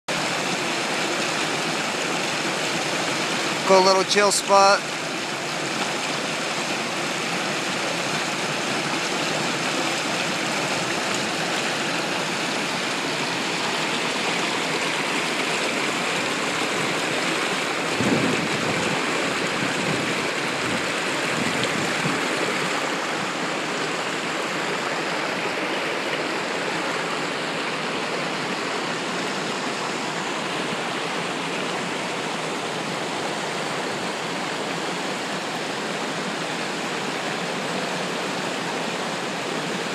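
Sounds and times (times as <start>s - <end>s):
water rushing over boulders: 0.1s - 39.9s.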